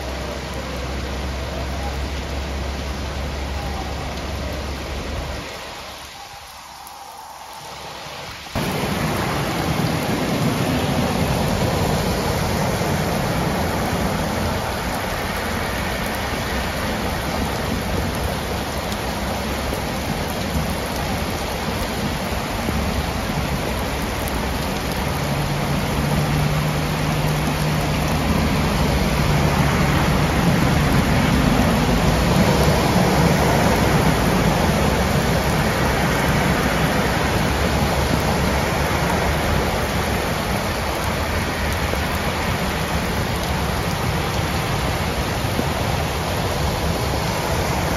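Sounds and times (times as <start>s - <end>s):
car splashing through water: 0.0s - 47.9s
floodwater rushing: 0.0s - 47.9s
heavy rain pouring: 0.0s - 47.9s.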